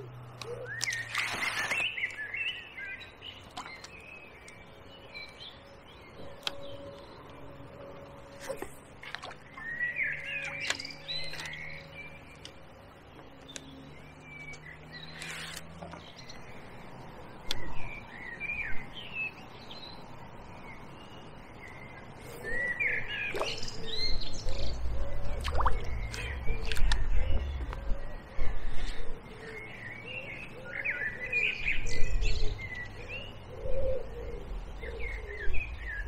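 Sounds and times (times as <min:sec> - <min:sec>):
small songbirds chirping: 0:00.0 - 0:36.0.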